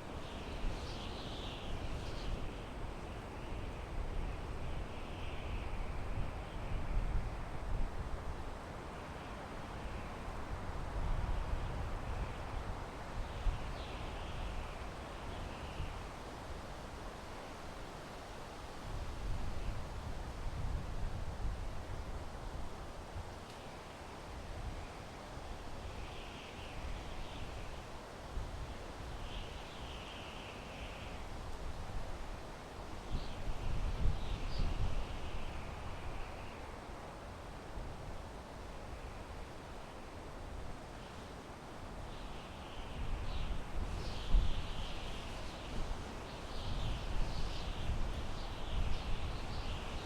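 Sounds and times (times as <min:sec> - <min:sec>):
wind through pine trees: 0:00.0 - 0:50.0.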